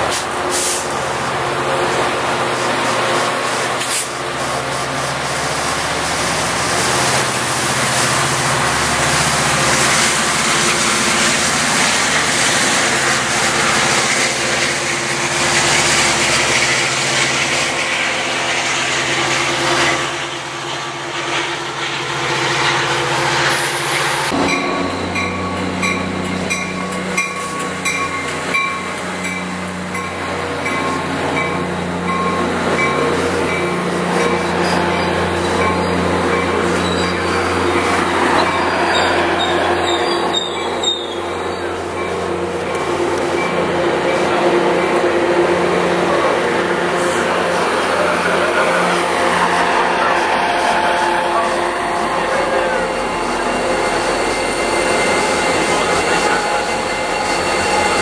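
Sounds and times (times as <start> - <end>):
diesel locomotive engine hum: 0.0 - 58.0
train wheels rumbling past: 0.0 - 58.0.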